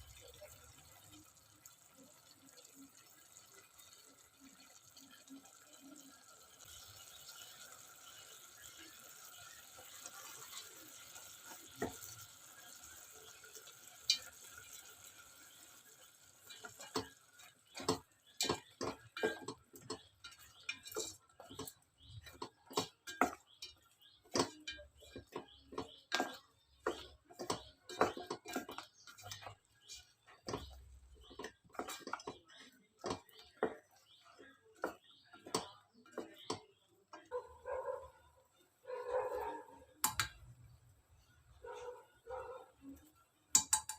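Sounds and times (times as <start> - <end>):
utensils clicking on dishes: 0.0 - 37.4, 40.0 - 40.4, 43.5 - 43.9.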